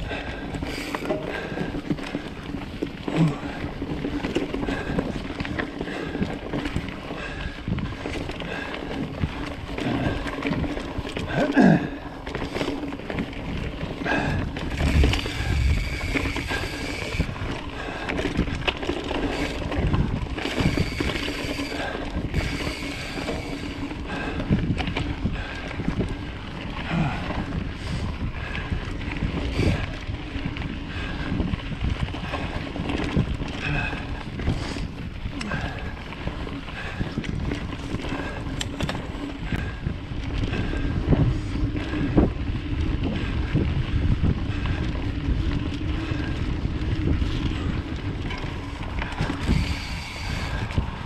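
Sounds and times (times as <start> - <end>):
bike knocking and rattling: 0.0 - 51.0
bike tyres rolling on dirt: 0.0 - 51.0.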